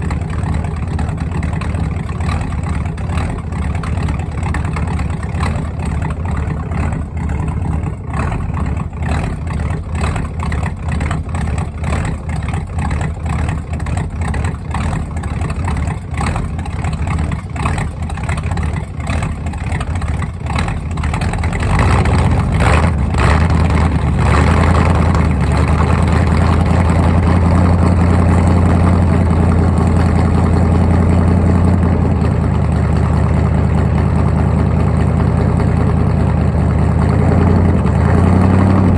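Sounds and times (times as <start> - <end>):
engine idling with pulsing lope: 0.0 - 38.9.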